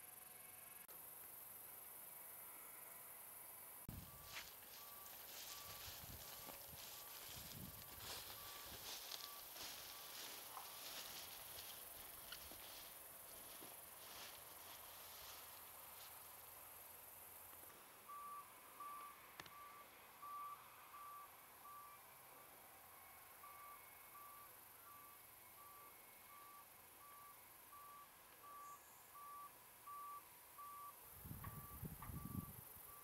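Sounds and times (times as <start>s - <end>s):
faint reversing alarm beeping: 3.9s - 17.0s, 17.8s - 33.0s.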